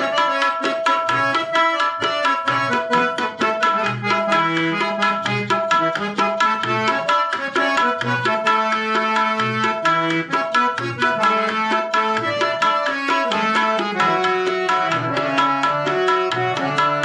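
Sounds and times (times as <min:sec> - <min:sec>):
harmonium: 0:00.0 - 0:17.0
tabla beat: 0:00.0 - 0:17.0.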